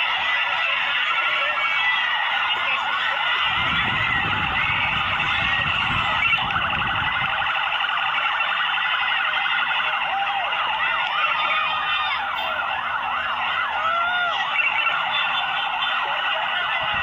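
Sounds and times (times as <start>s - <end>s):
vehicle sirens wailing: 0.0s - 17.0s.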